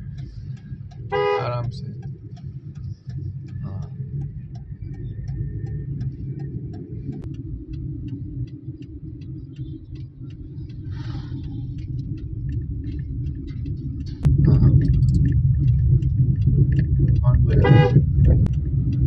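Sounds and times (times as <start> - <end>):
car engine and road rumble: 0.0 - 19.0
light ticking: 0.0 - 19.0.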